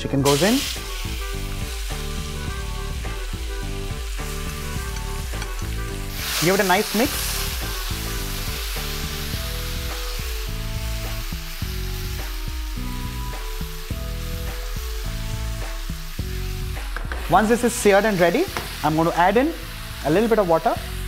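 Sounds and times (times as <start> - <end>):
background music with held notes: 0.0 - 21.0
food sizzling in frying pan: 0.2 - 21.0.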